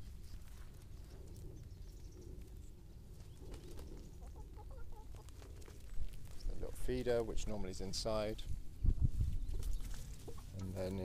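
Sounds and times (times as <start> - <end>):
chickens clucking: 1.3 - 11.0.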